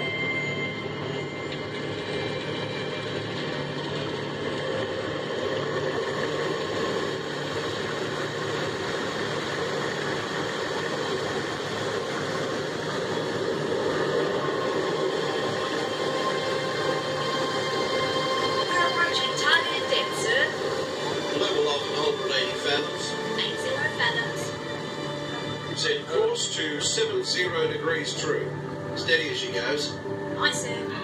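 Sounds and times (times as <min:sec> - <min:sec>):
rumble and rushing noise: 0:00.0 - 0:31.0.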